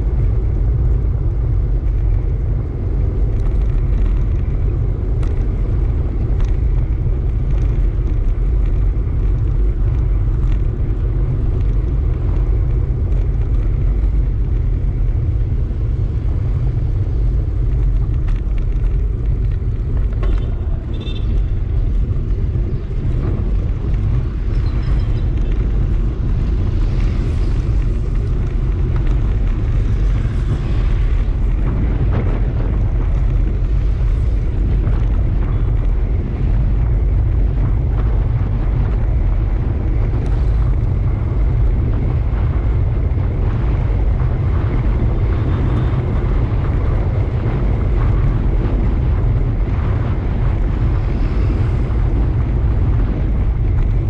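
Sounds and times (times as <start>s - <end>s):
tyre rumble on road: 0.0s - 54.0s
wind buffeting microphone: 0.0s - 54.0s.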